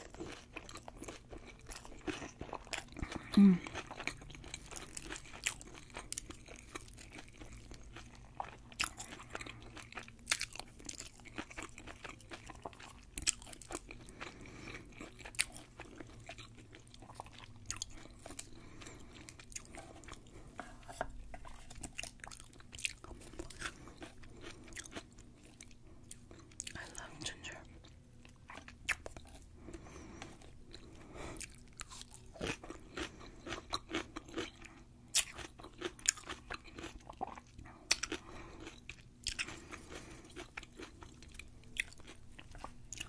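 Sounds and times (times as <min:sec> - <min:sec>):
crisp crunchy chewing: 0:00.0 - 0:43.0.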